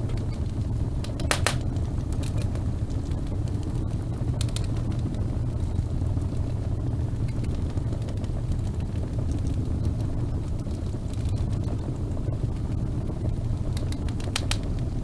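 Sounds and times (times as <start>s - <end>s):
fire crackles and pops: 0.0s - 15.0s
fire flames rumbling: 0.0s - 15.0s.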